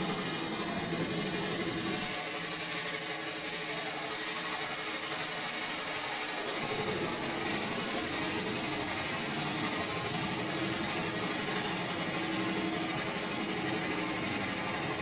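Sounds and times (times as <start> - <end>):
sawmill machinery drone: 0.0 - 15.0.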